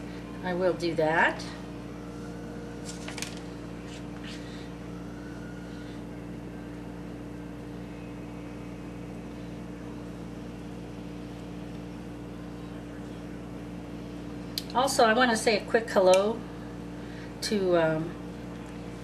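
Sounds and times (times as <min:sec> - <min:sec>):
electrical hum with steady tones: 0:00.0 - 0:19.0.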